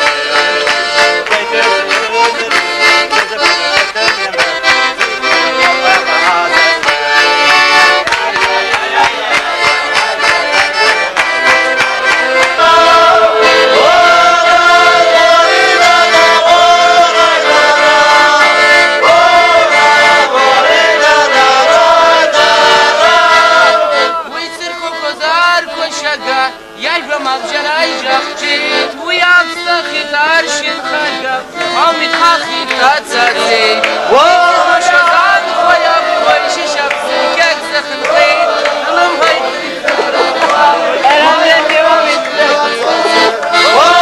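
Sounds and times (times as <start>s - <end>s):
rhythmic hand claps: 0.0s - 25.6s, 27.6s - 44.0s
accordion playing folk tune: 0.0s - 44.0s.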